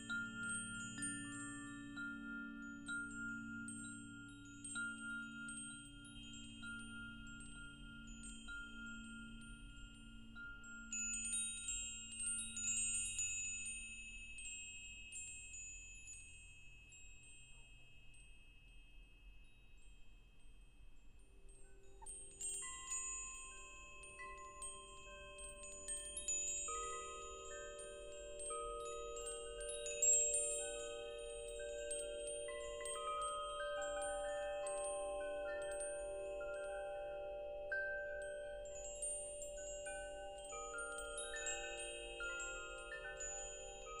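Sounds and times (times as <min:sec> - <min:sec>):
wind chimes ringing: 0:00.0 - 0:19.9, 0:21.4 - 0:44.0.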